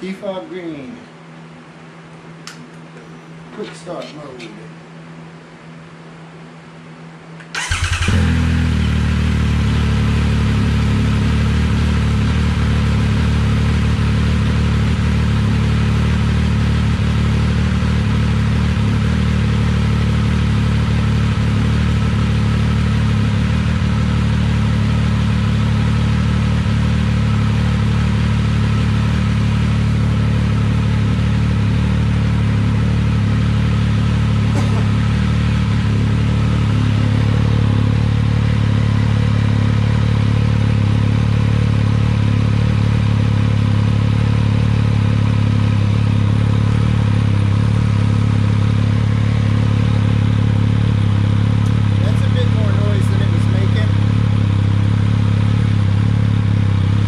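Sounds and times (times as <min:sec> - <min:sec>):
motorcycle engine idling: 0:07.5 - 0:57.0.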